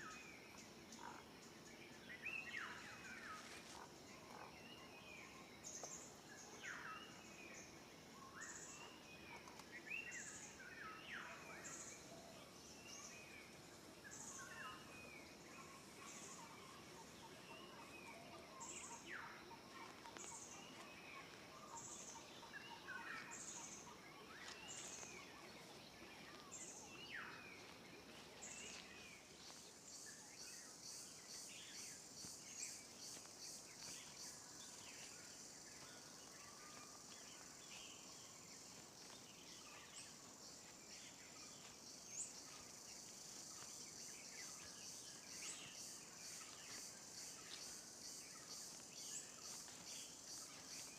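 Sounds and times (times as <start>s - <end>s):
high insect chorus: 0.0s - 50.9s.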